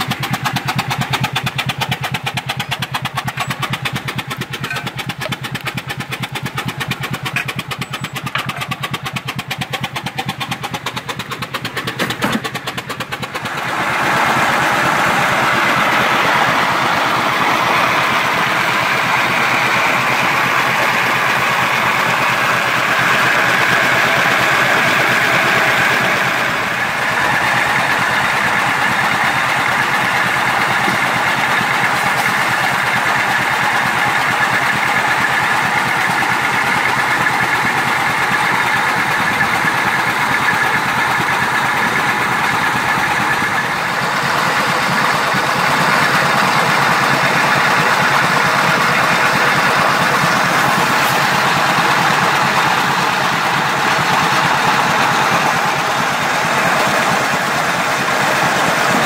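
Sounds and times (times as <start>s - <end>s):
feed grinder grinding corn: 0.0s - 59.0s
steam engine running: 0.0s - 59.0s.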